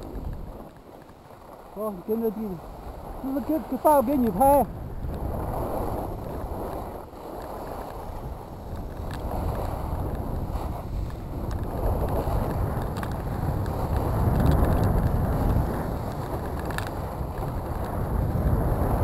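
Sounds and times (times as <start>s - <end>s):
skis scraping over snow: 0.0s - 19.0s
wind rumbling on microphone: 0.0s - 19.0s.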